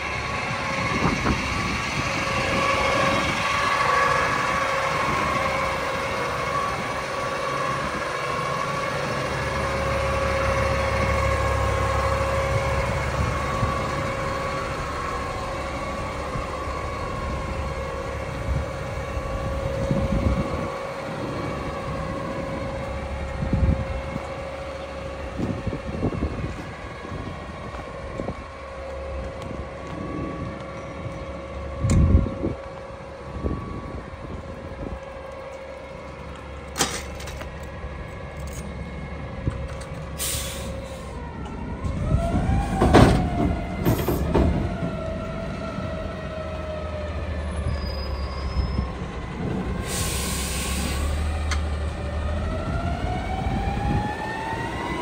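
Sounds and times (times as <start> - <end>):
garbage truck idling: 0.0 - 47.5.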